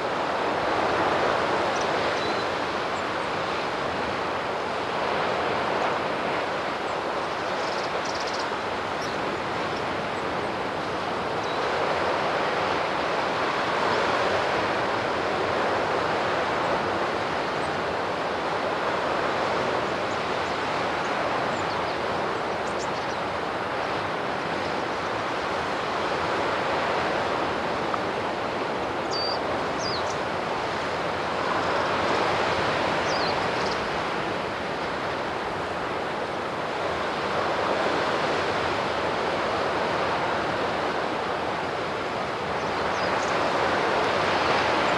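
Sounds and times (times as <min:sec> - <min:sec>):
sea surf washing on shore: 0:00.0 - 0:44.9.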